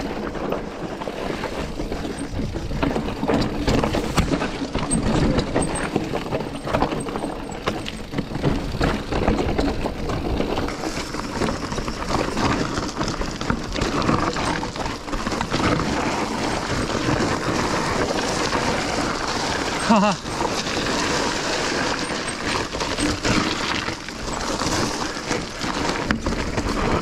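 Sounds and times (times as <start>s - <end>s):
bike rattling over rocks: 0.0s - 27.0s.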